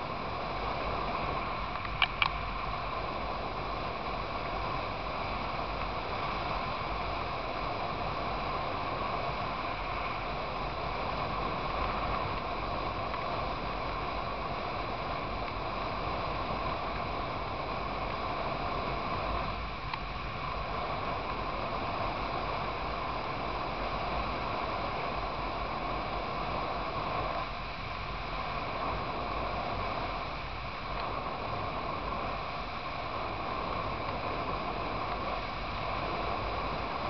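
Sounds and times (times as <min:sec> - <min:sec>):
motorcycle engine and road noise: 0:00.0 - 0:37.0
wind rushing over microphone: 0:00.0 - 0:37.0.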